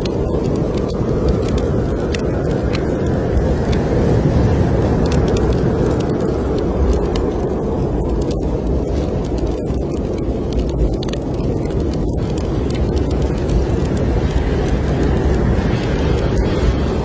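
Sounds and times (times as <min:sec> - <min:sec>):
blizzard wind rushing: 0:00.0 - 0:17.0
wood fire crackling and popping: 0:00.0 - 0:17.0.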